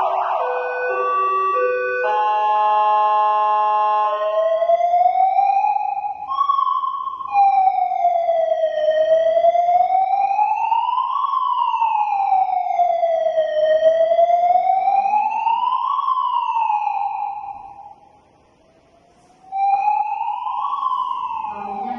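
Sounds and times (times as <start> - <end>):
electronic siren wailing: 0.0 - 18.2, 19.4 - 21.9.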